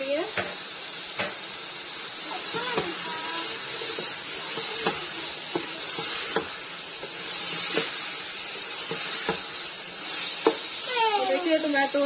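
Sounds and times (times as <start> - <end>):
chicken and tomatoes sizzling in oil: 0.0 - 12.0.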